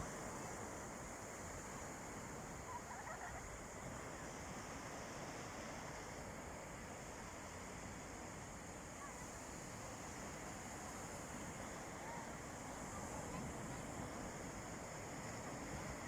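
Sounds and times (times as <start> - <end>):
sea waves washing on a beach: 0.0 - 16.0.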